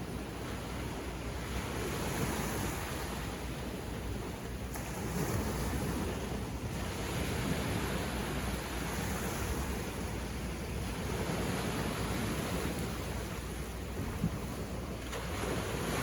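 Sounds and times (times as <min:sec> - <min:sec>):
sea waves washing on beach: 0:00.0 - 0:16.0
wind on microphone: 0:00.0 - 0:16.0.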